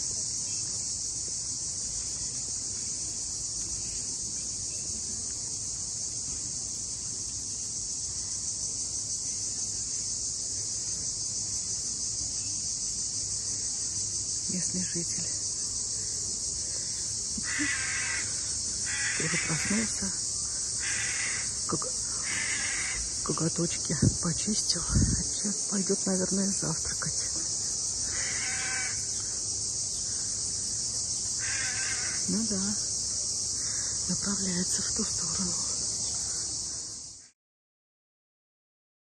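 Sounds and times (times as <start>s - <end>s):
insects droning: 0.0s - 37.4s.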